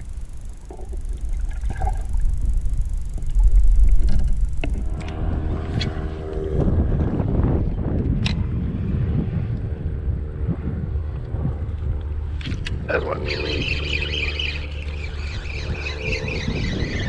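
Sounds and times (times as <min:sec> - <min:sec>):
muffled underwater rumble: 0:00.0 - 0:17.0
steady hum: 0:00.0 - 0:17.0.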